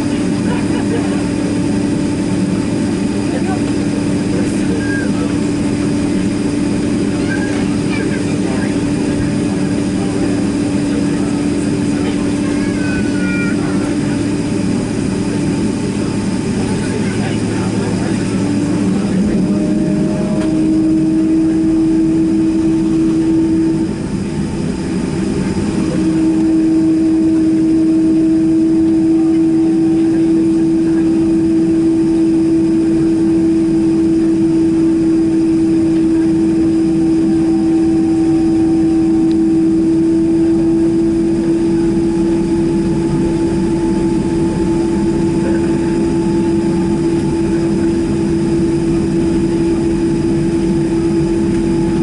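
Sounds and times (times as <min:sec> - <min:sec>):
jet engine whine: 0:00.0 - 0:52.0
low rumble in aircraft cabin: 0:00.0 - 0:52.0.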